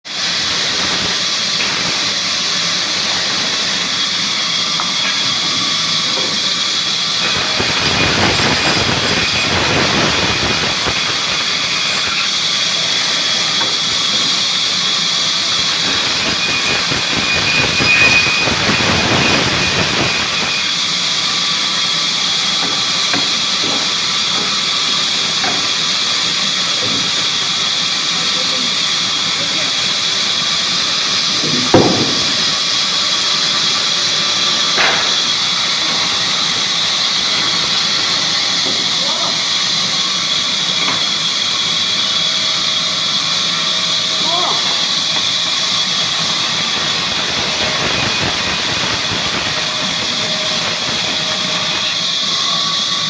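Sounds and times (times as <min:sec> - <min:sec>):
sawmill machinery hissing: 0:00.0 - 0:53.0.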